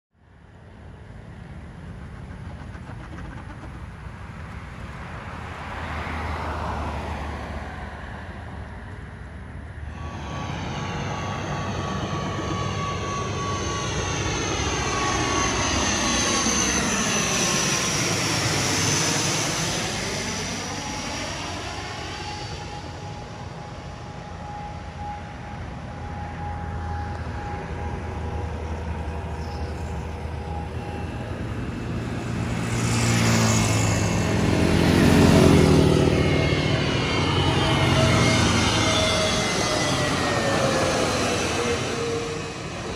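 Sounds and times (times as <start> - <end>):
propeller plane droning overhead: 0.1 - 42.9
jet engines of landing plane: 0.2 - 42.9.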